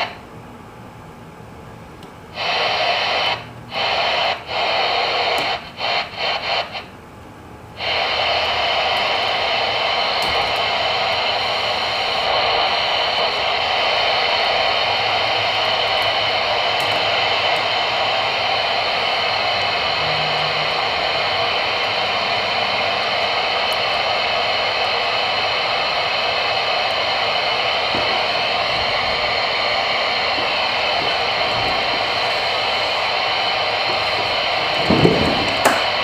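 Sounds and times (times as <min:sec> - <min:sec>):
radio static hiss: 0:00.0 - 0:00.3, 0:02.3 - 0:36.0.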